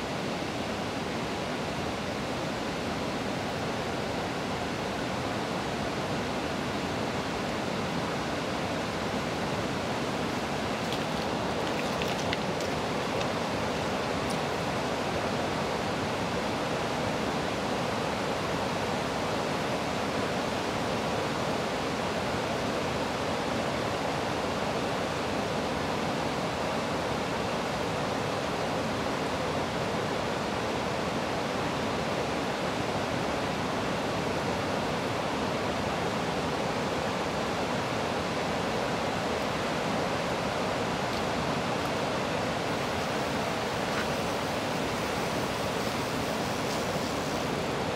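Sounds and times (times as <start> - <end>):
water rushing over weir: 0.1 - 26.6, 31.7 - 47.9.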